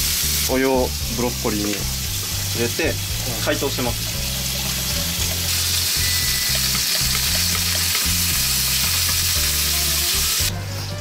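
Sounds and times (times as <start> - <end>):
meat sizzling in a pan: 0.0 - 10.6.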